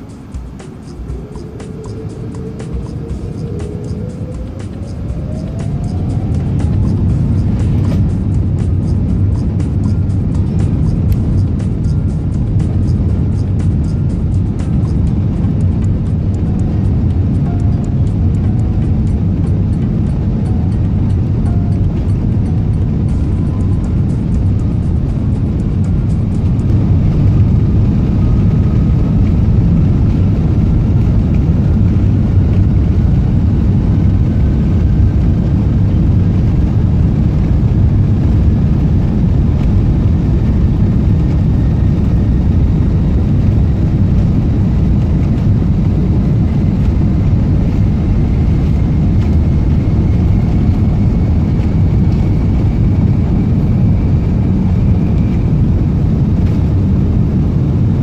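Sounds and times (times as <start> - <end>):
faint rising whine: 0.0 - 58.0
jet engine cabin rumble: 0.0 - 58.0.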